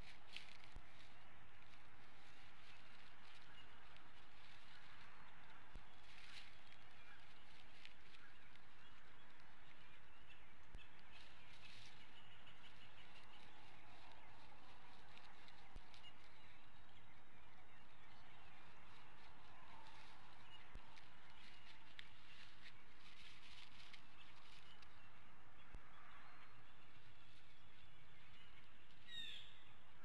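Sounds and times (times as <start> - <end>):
faint bird chirps: 0.1 - 30.0.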